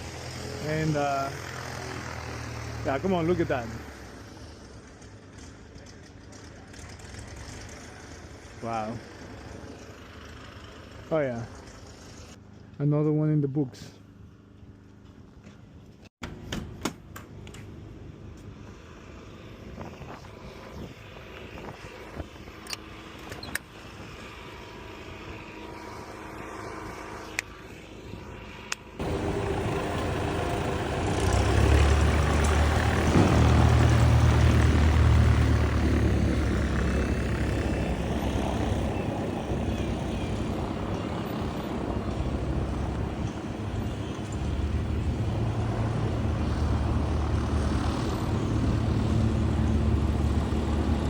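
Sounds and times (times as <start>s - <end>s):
engine with deep low rumble: 0.0s - 12.8s, 13.8s - 51.0s.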